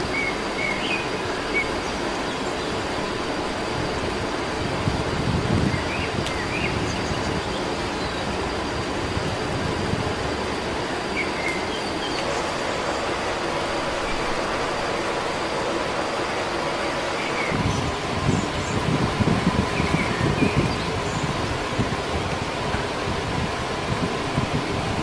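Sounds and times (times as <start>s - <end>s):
steady rushing outdoor noise: 0.0s - 25.0s
thin steady high tone: 0.0s - 25.0s.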